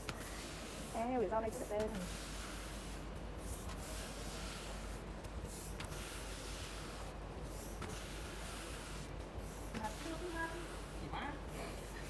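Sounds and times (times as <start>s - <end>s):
applicator swishing across wood: 0.0s - 12.0s.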